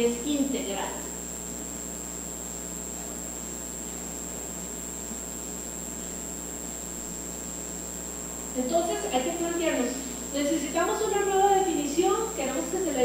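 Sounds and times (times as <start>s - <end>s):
electrical hum: 0.0s - 13.0s
high-pitched whine: 0.0s - 13.0s.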